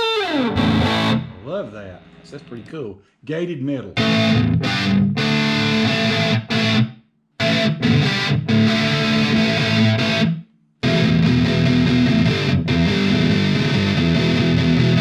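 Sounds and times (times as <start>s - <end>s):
distorted electric guitar chords: 0.0s - 2.7s, 4.0s - 15.0s.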